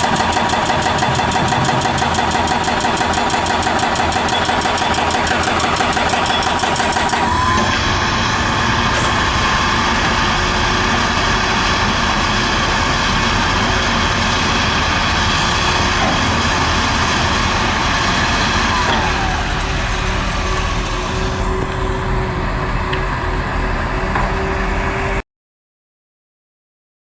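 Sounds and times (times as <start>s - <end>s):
excavator engine running: 0.0s - 25.2s.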